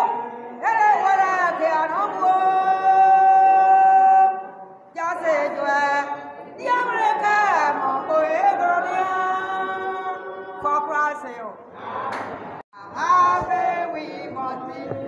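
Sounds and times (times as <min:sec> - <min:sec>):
elderly woman singing unaccompanied: 0:00.0 - 0:11.4, 0:12.8 - 0:15.0.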